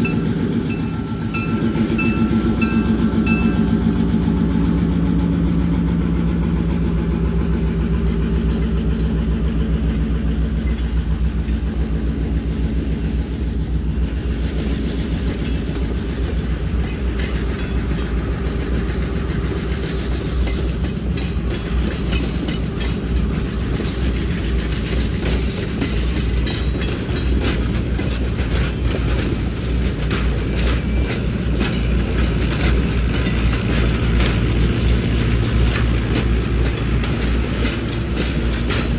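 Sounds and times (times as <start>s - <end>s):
wheels clattering over rail joints: 0.0s - 4.3s, 7.6s - 38.9s
locomotive engine drone: 0.0s - 38.9s.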